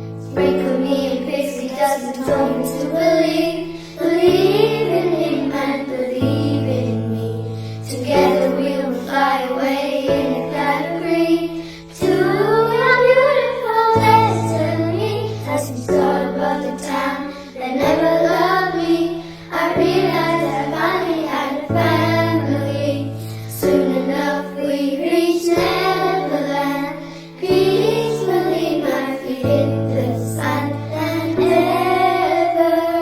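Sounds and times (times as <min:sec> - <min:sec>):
girls singing together: 0:00.0 - 0:33.0.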